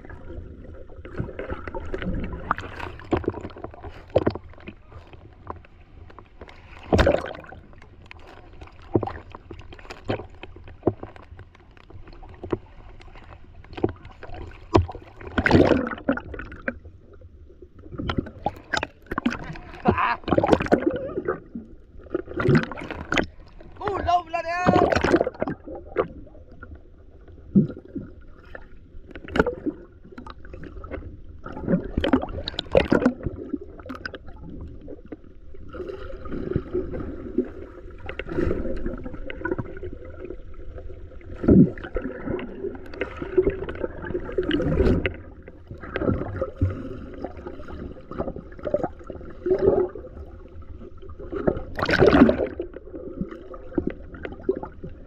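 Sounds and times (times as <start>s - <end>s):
water sloshing against boat hull: 0.0s - 55.0s.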